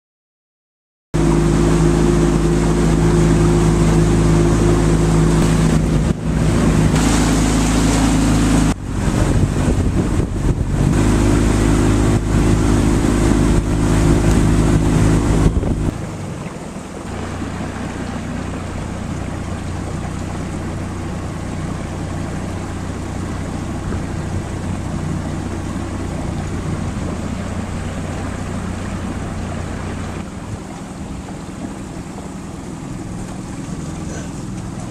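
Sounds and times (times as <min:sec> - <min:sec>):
motorboat engine running: 0:01.2 - 0:34.9
wind buffeting microphone: 0:02.3 - 0:34.9.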